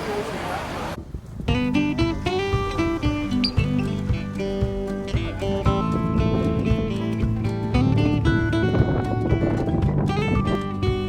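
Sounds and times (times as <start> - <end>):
plucked acoustic guitar music: 1.6 - 11.0.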